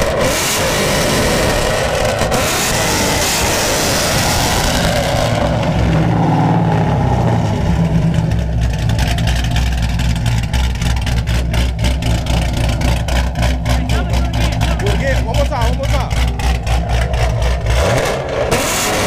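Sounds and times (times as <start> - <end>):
car engine revving: 0.0 - 19.0
choppy loping engine idle: 0.0 - 19.0.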